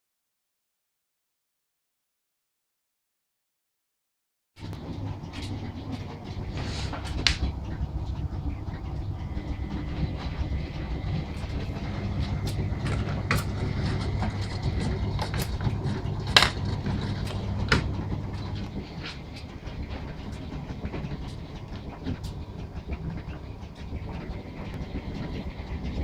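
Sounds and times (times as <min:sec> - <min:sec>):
washing machine humming: 0:04.6 - 0:26.0.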